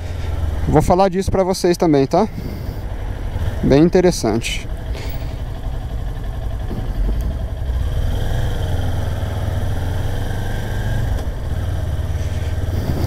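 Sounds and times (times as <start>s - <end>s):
motorcycle engine riding off: 2.3s - 13.0s.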